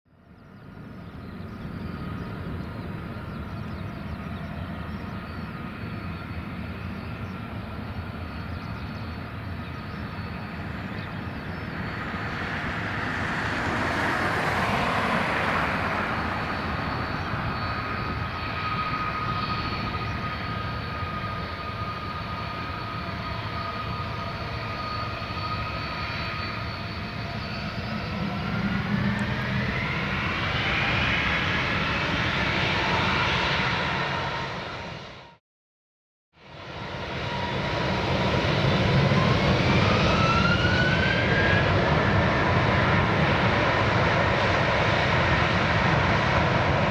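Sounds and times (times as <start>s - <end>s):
jet engines whining: 1.2s - 35.4s, 36.8s - 46.9s.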